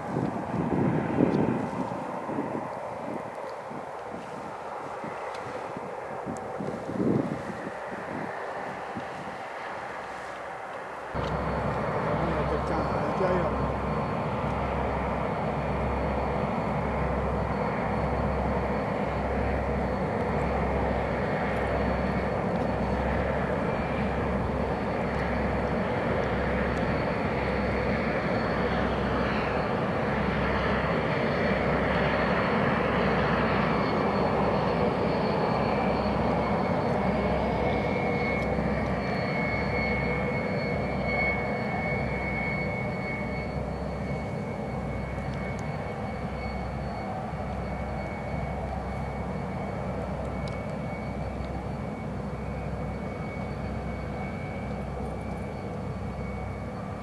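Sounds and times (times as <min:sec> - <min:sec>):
thin high whine: 0:00.0 - 0:57.0.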